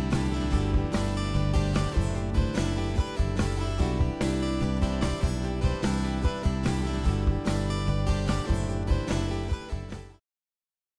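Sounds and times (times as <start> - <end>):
strummed acoustic guitar: 0.0 - 10.2.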